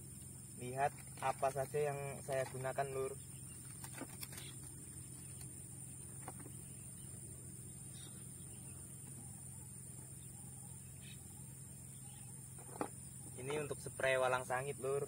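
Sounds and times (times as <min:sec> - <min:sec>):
high-pitched insect drone: 0:00.0 - 0:15.0
low hum: 0:02.1 - 0:14.6.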